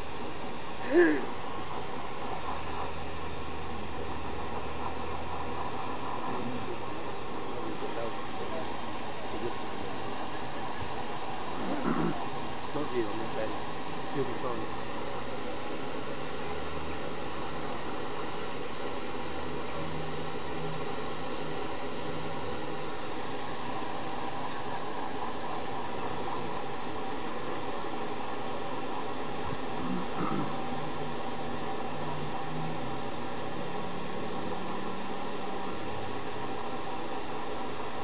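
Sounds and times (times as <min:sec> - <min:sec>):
steam hissing from locomotive: 0:00.0 - 0:38.0.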